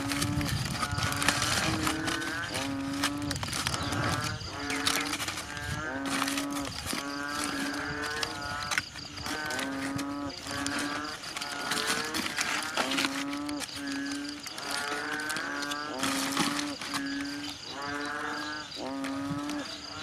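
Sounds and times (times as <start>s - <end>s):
aluminium foil crinkling: 0.0s - 19.8s.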